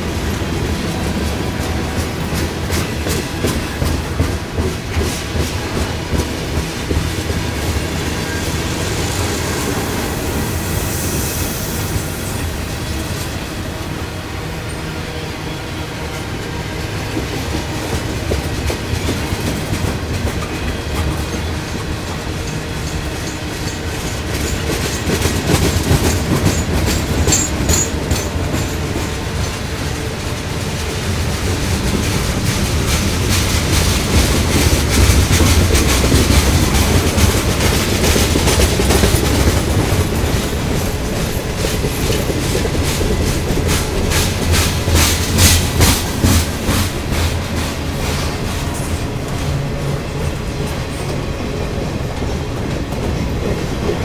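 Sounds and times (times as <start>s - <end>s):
wheels clacking over rail joints: 0.0s - 10.2s, 16.5s - 54.0s
freight train rolling past: 0.0s - 54.0s.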